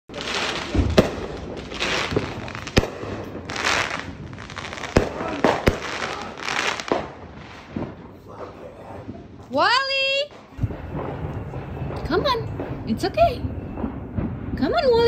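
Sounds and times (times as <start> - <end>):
fireworks bangs: 0.1 - 15.0
fireworks crackling and hissing: 0.1 - 15.0.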